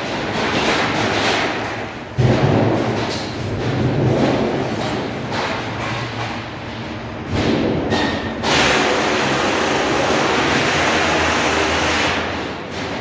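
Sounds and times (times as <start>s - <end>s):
machine knocks and clatter: 0.0s - 13.0s.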